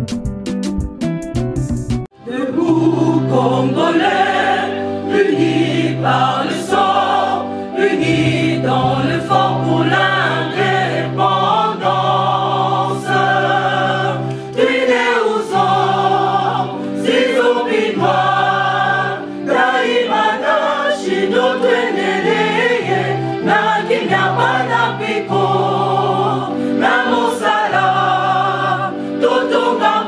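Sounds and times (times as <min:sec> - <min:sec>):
gospel choir singing: 0:02.2 - 0:30.0.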